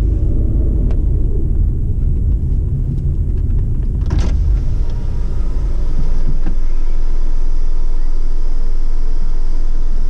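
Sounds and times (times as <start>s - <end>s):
car interior low rumble: 0.0s - 10.0s.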